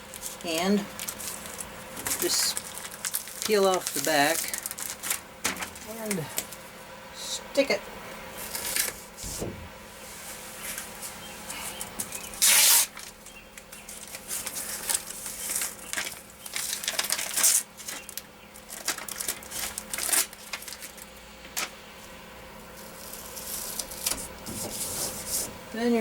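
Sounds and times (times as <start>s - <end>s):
foil mat peeling and crinkling: 0.0s - 6.7s, 8.4s - 9.5s, 10.3s - 21.8s, 22.7s - 25.6s.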